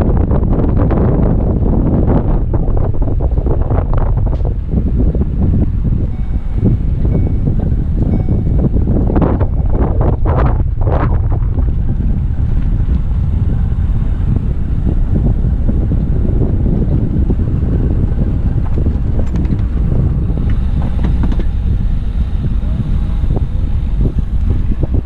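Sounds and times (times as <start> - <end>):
tractor engine rumbling: 0.0 - 25.0
wind buffeting microphone: 0.0 - 25.0.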